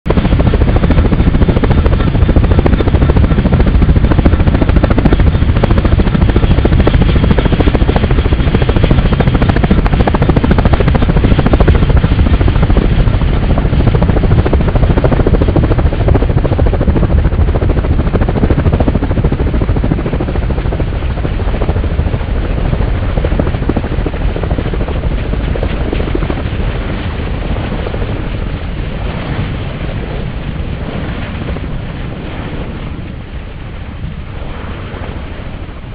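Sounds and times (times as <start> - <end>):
helicopter lifting off: 0.0 - 35.9.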